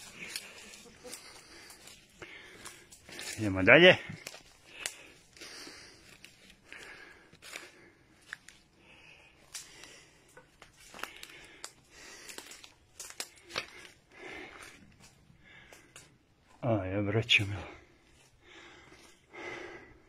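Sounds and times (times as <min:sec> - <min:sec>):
footsteps crunching through brush: 0:00.0 - 0:16.8.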